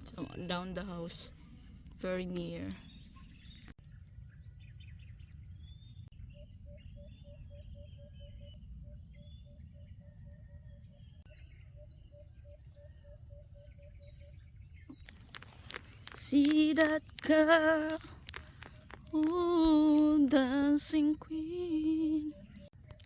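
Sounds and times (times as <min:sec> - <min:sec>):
faint bird chirps: 0:00.0 - 0:23.0
insects trilling: 0:00.0 - 0:23.0.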